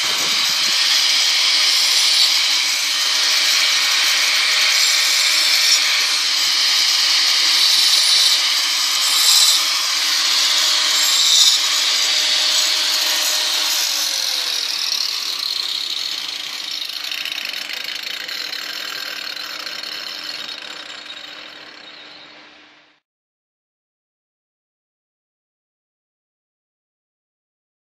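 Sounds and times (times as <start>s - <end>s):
angle grinder grinding stone: 0.0s - 23.0s.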